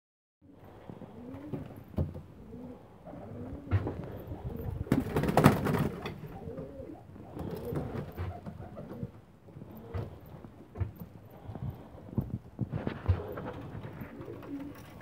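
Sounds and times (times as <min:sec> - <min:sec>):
pigeons cooing: 0:00.5 - 0:10.4, 0:12.8 - 0:15.0.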